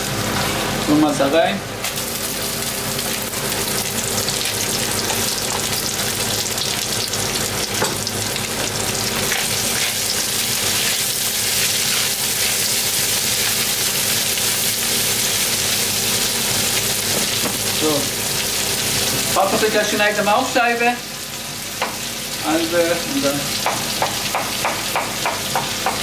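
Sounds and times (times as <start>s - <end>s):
chicken and onion sizzling in oil: 0.0s - 26.0s.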